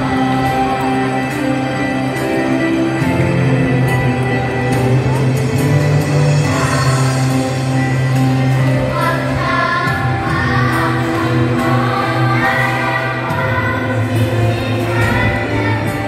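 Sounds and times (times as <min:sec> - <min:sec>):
children's choir singing: 0:00.0 - 0:05.2, 0:05.8 - 0:16.0.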